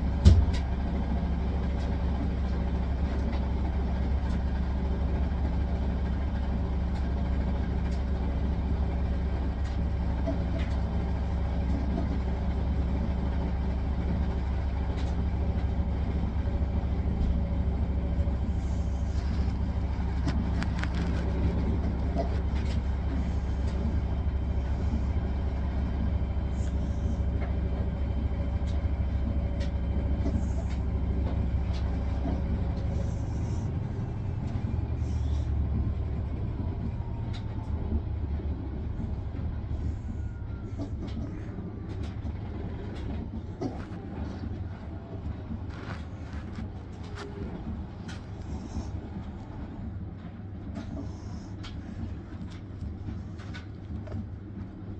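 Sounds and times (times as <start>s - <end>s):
washing machine spinning: 0.0s - 54.9s.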